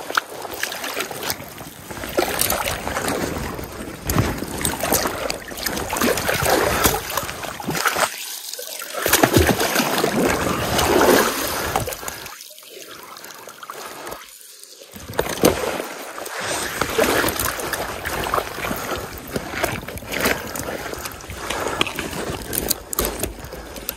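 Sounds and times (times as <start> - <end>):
stream water splashing and dripping: 0.0 - 23.9.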